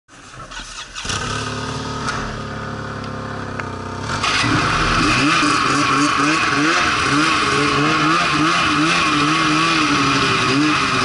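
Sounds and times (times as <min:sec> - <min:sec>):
snowmobile engine running: 0:01.0 - 0:11.0.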